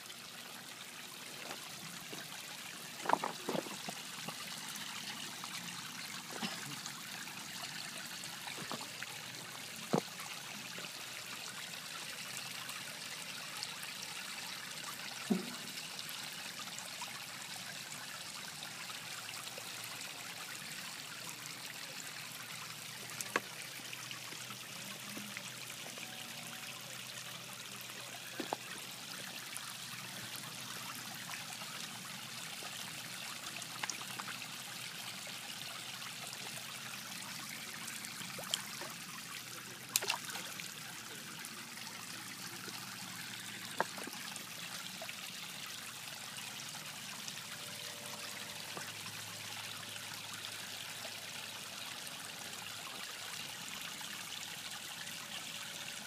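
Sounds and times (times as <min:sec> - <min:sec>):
fountain water trickling and splashing: 0:00.0 - 0:56.0.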